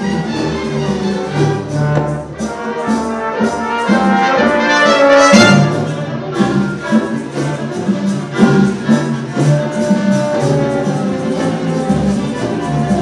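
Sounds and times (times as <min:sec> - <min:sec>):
orchestra playing: 0:00.0 - 0:13.0.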